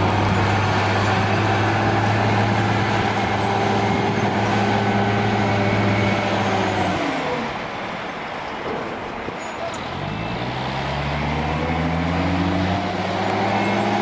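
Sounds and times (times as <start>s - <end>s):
heavy vehicle engine: 0.0s - 14.0s.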